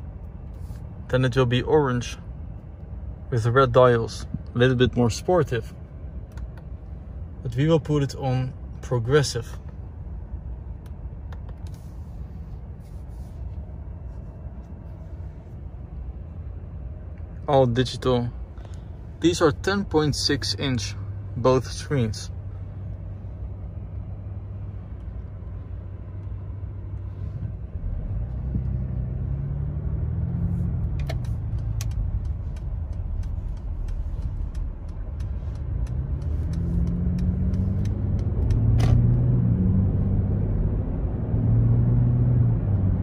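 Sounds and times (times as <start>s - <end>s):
diesel engine rumble accelerating: 0.0s - 43.0s.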